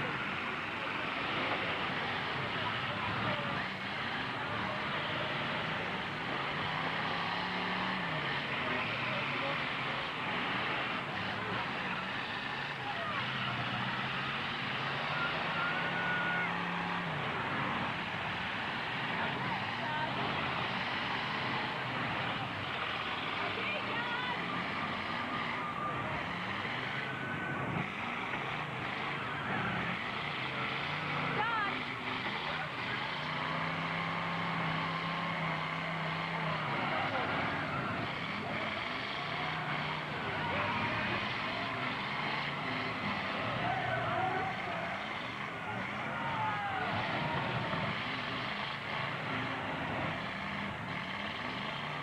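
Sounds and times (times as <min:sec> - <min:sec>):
truck engines running and revving: 0:00.0 - 0:52.0.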